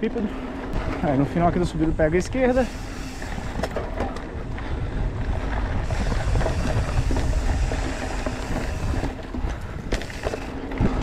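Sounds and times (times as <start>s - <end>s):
faint bike rattles: 0.0s - 11.0s
wind rushing over microphone: 0.6s - 11.0s.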